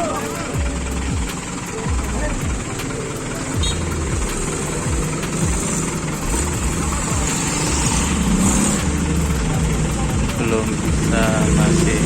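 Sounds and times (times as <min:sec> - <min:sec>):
heavy truck engine revving: 0:00.0 - 0:12.0.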